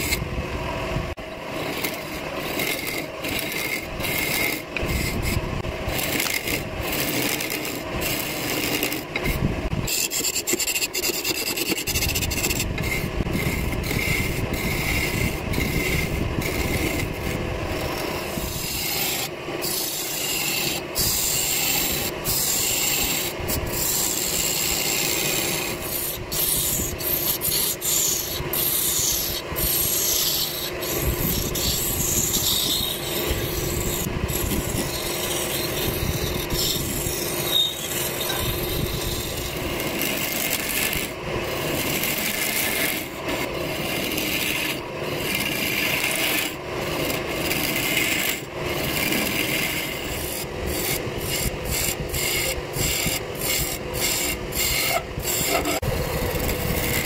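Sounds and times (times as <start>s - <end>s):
turning tool scraping wood: 0.0s - 0.2s, 1.2s - 57.0s
lathe hum: 0.0s - 57.0s.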